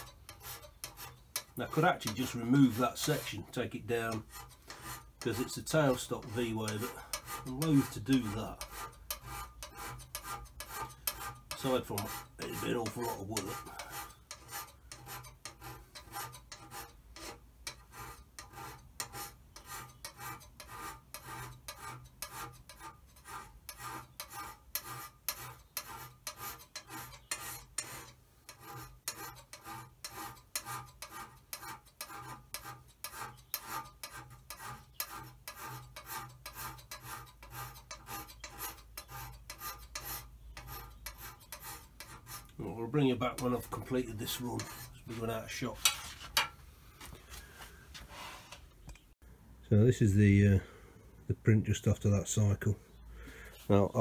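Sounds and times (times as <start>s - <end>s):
hand scraper scraping cast iron: 0.0s - 47.4s.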